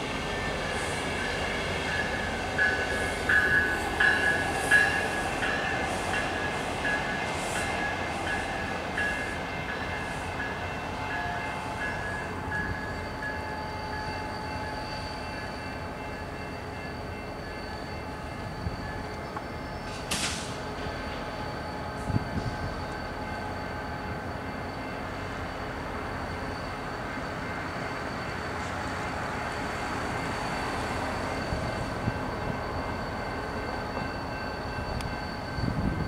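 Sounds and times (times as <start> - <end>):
train bell ringing: 0.0 - 36.0
train rumble: 0.0 - 36.0.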